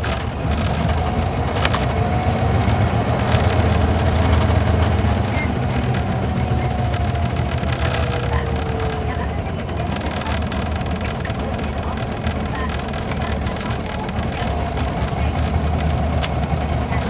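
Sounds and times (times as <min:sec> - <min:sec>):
diesel engine drone with whine: 0:00.0 - 0:17.0
small cabin rattles and clicks: 0:00.0 - 0:17.0.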